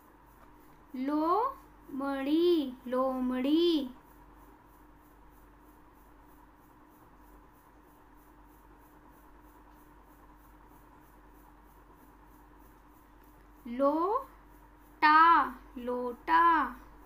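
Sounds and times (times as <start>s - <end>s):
thin steady hum: 0.0s - 17.0s.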